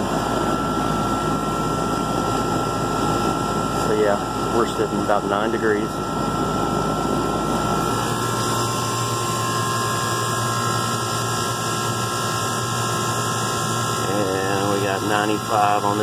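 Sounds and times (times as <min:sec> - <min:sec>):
heat pump humming: 0:00.0 - 0:16.0
steady whine: 0:00.0 - 0:16.0.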